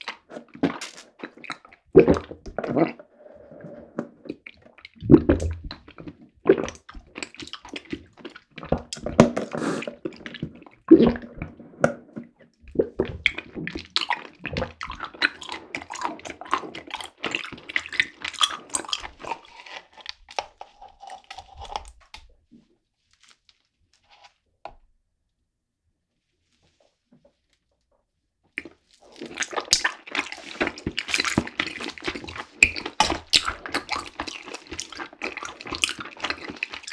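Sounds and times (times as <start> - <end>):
wet chewing: 0.0 - 3.1, 4.0 - 22.3, 28.6 - 36.9.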